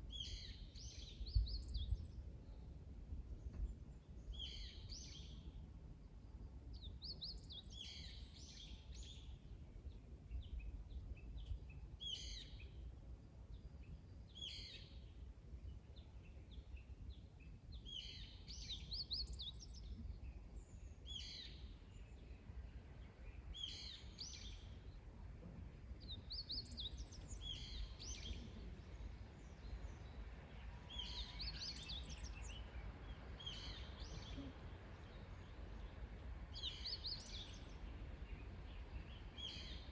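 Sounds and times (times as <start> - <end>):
low outdoor rumble: 0.0 - 39.9
songbird chirping: 0.0 - 39.9.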